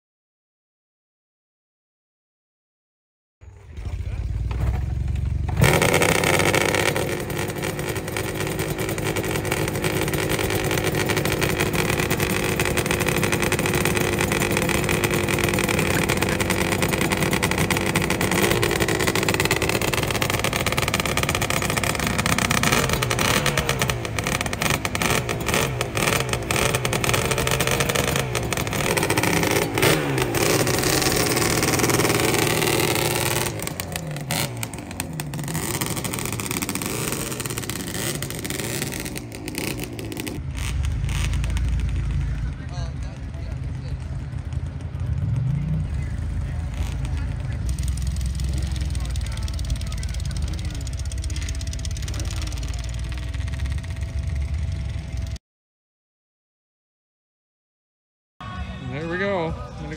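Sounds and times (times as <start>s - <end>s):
vehicle engine running: 3.4s - 55.4s.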